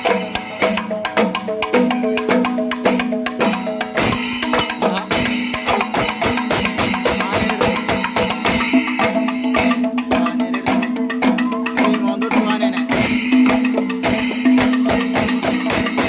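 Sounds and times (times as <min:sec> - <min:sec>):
fast drum strokes: 0:00.0 - 0:16.0
hand cymbals: 0:00.0 - 0:16.0.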